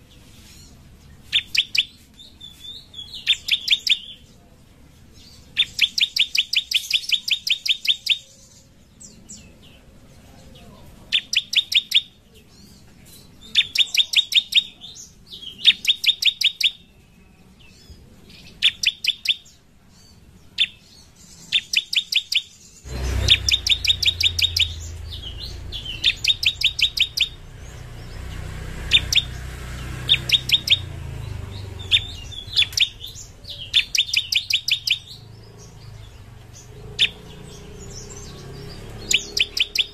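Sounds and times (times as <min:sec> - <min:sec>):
bird singing rapid high notes: 0:00.7 - 0:04.3, 0:05.2 - 0:09.5, 0:11.1 - 0:12.8, 0:13.4 - 0:39.9.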